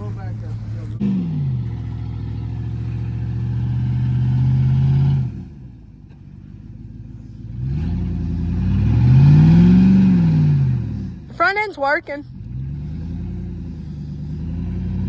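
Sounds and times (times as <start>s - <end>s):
truck engine revving: 0.0s - 5.8s, 6.8s - 11.6s, 12.2s - 15.0s.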